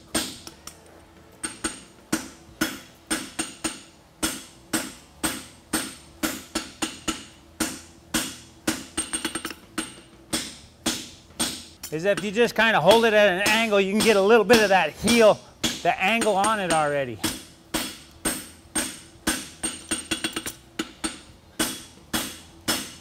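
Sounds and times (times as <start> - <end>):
hammer striking steel on anvil: 0.1 - 0.8, 1.4 - 23.0.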